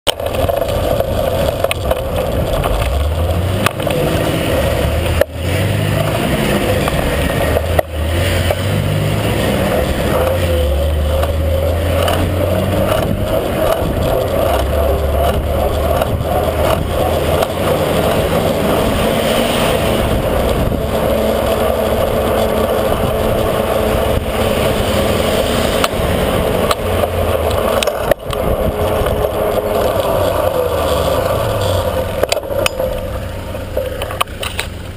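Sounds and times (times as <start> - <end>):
road traffic: 0.0 - 34.9
tyres rolling on road: 0.0 - 34.9
wind rushing over microphone: 0.2 - 32.8.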